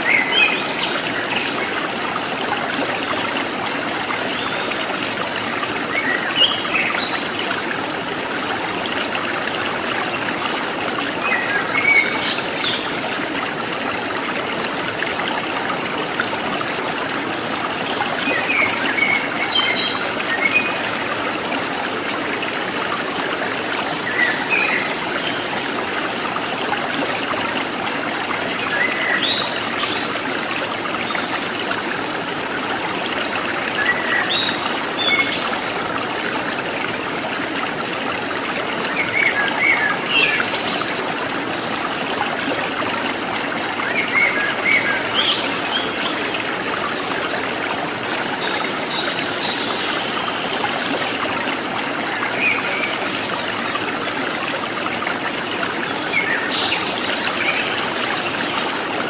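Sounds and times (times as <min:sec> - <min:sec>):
forest stream trickling: 0:00.0 - 0:59.0.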